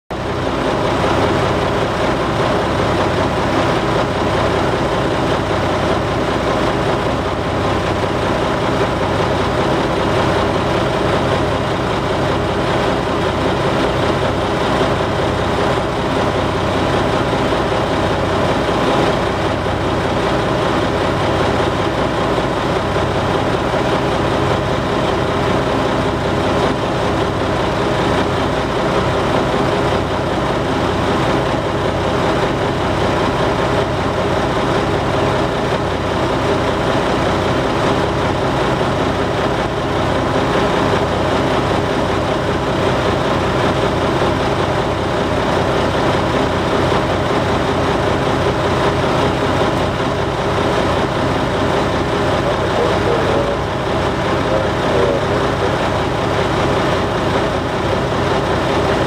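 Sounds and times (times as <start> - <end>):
diesel engine idling: 0.1 - 59.0.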